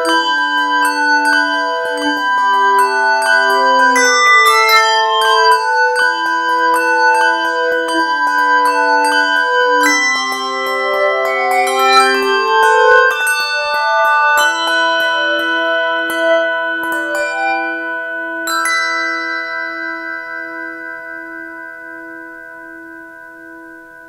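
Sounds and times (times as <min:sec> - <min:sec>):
handbells ringing chords: 0:00.0 - 0:24.0.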